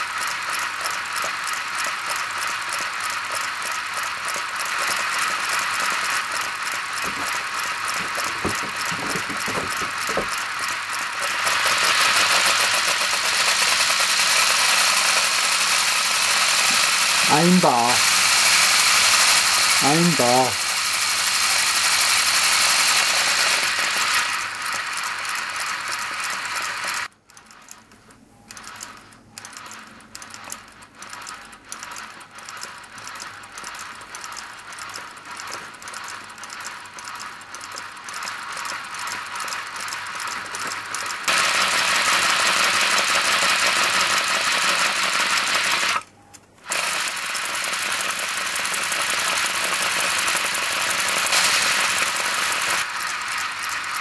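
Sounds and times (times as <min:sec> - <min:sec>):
model locomotive rods rattling: 0:00.0 - 0:54.0.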